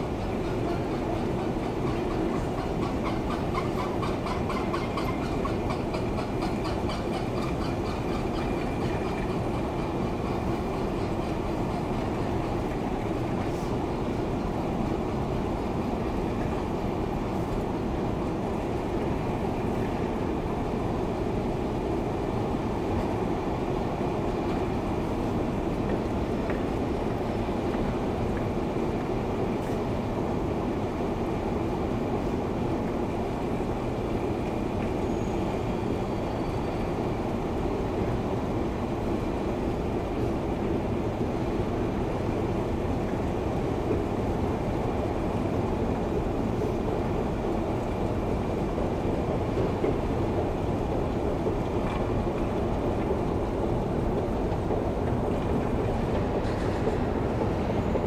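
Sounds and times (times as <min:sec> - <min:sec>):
escalator rumbling with high whine: 0:00.0 - 0:58.0.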